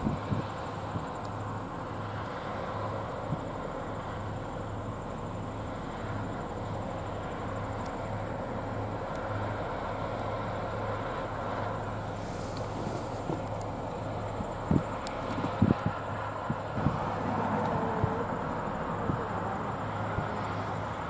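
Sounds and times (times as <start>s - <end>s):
steady machinery drone: 0.0s - 21.0s.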